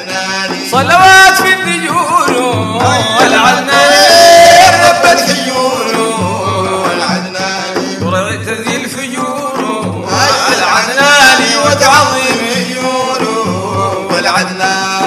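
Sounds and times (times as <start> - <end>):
men singing ornamented melody: 0.0 - 15.0.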